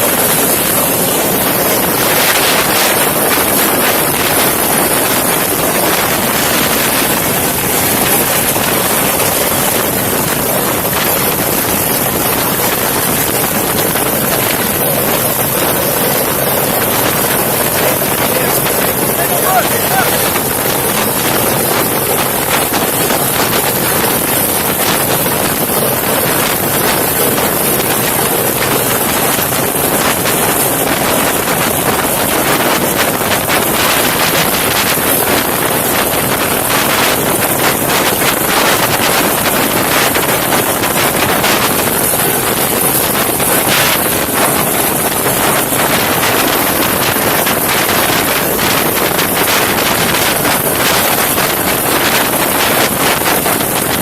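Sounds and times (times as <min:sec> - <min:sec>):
helicopter rotor and engine: 0:00.0 - 0:54.0
wind rushing over microphone: 0:00.0 - 0:54.0.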